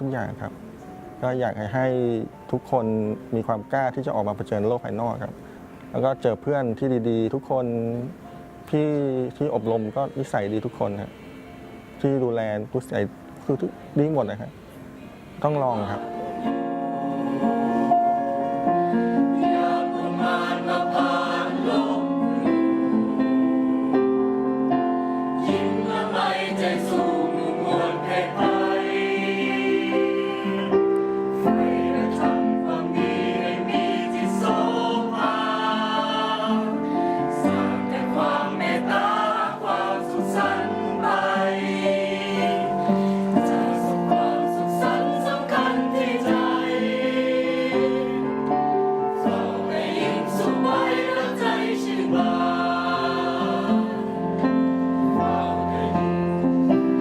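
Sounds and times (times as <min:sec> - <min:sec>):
musical accompaniment: 0:00.0 - 0:57.0
choir singing sustained notes: 0:08.2 - 0:13.0, 0:13.8 - 0:57.0.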